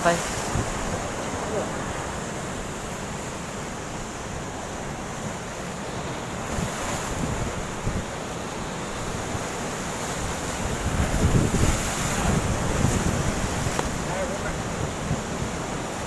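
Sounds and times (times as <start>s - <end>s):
wind buffeting microphone: 0.0s - 5.2s, 6.4s - 16.0s
sea waves washing onto shore: 0.0s - 16.0s.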